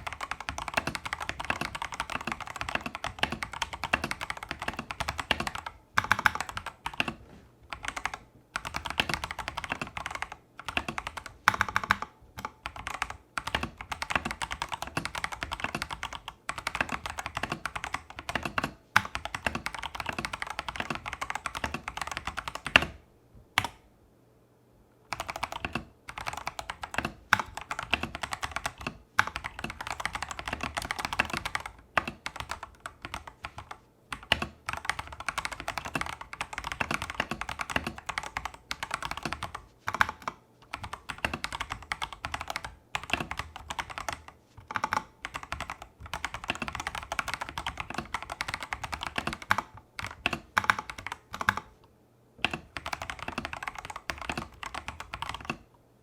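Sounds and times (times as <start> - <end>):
mechanical keyboard typing: 0.0 - 23.0, 23.6 - 23.8, 25.1 - 51.8, 52.4 - 55.7.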